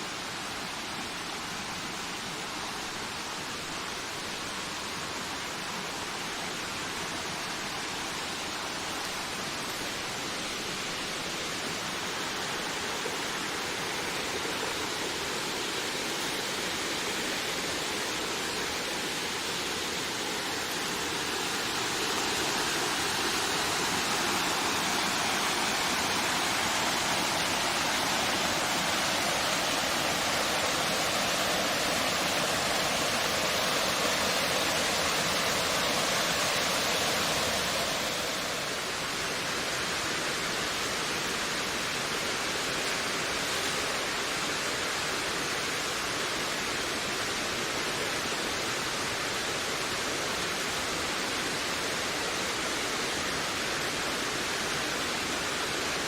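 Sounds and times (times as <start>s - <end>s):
wind rushing through trees: 0.0s - 56.0s.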